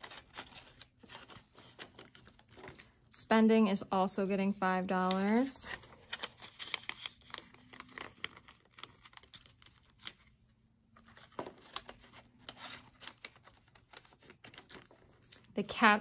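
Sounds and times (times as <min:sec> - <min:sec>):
banknotes rustling: 0:00.0 - 0:03.0, 0:04.3 - 0:15.6.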